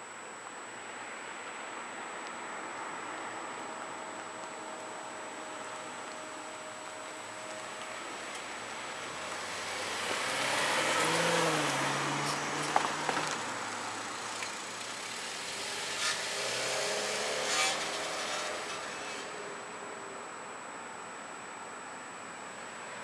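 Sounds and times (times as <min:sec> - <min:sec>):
car passing: 0:01.1 - 0:20.5.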